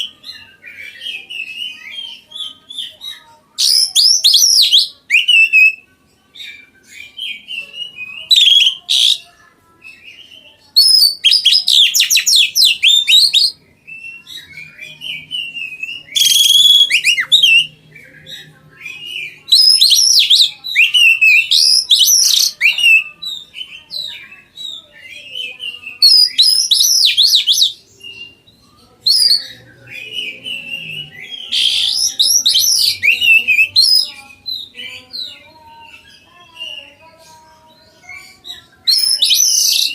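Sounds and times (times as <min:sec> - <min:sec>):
bird singing varied high phrases: 0:00.0 - 0:39.9.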